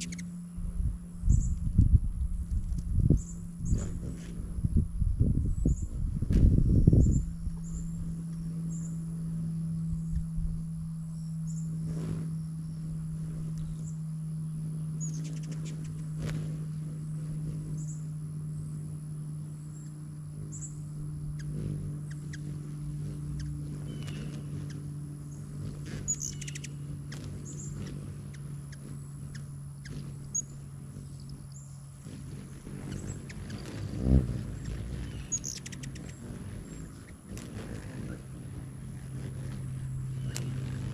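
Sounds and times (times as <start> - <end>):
hummingbirds chipping: 0.0 - 40.9
steady low hum: 0.0 - 40.9.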